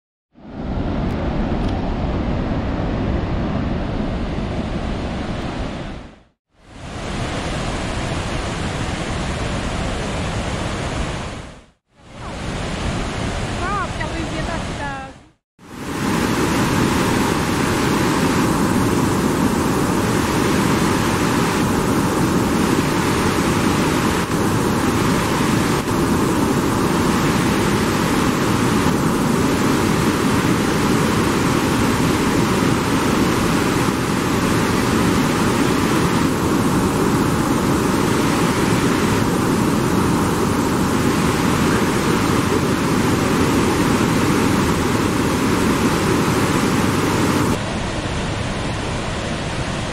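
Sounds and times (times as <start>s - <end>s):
rushing waterfall: 6.5s - 14.8s, 15.6s - 49.9s.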